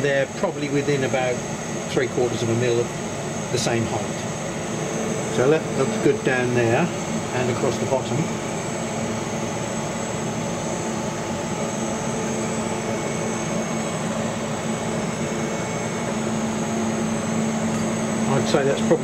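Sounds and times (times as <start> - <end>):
laser cutter fans whirring: 0.0 - 19.0.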